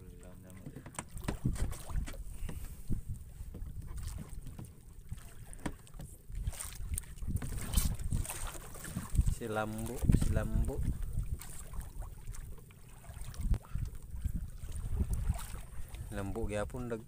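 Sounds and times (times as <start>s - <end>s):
water lapping against boat: 0.0s - 17.0s
wind buffeting microphone: 0.6s - 17.0s.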